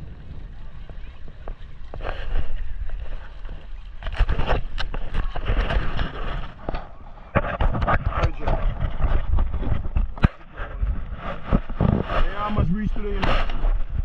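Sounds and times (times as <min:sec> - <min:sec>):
water splashing against hulls: 0:00.0 - 0:14.0
wind buffeting microphone: 0:00.0 - 0:14.0.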